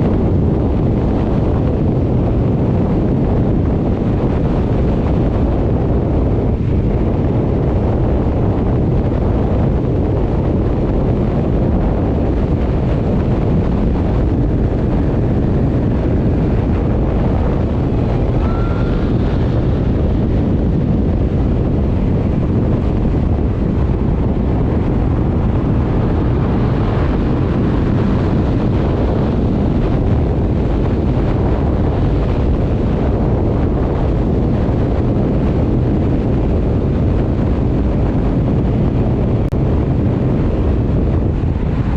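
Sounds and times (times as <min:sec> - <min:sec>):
low rumble: 0:00.0 - 0:41.9
wind rushing over microphone: 0:00.0 - 0:41.9.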